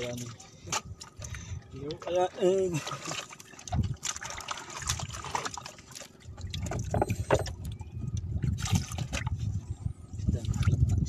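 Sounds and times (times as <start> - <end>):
water splashing around boat: 0.0 - 11.0.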